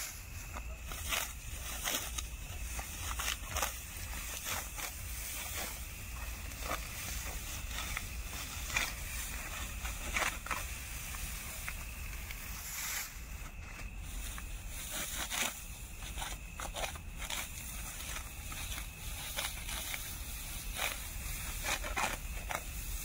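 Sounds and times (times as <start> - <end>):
sickle cutting dry wheat: 0.0 - 23.0
stalks rustling: 0.0 - 23.0.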